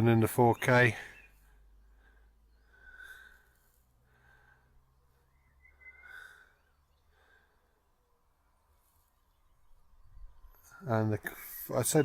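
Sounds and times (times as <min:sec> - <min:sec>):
faint breaths near microphone: 0:00.9 - 0:11.8.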